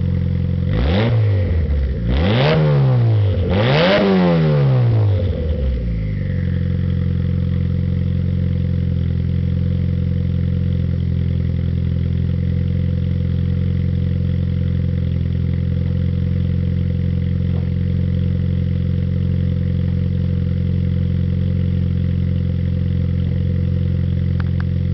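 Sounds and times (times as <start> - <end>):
car engine revving and idling: 0.0 - 24.9.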